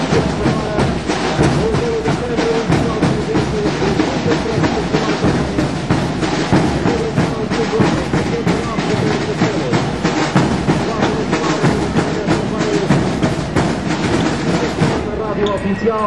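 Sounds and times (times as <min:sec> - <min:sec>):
bass drums beating: 0:00.0 - 0:15.4
snare drums: 0:00.0 - 0:16.0.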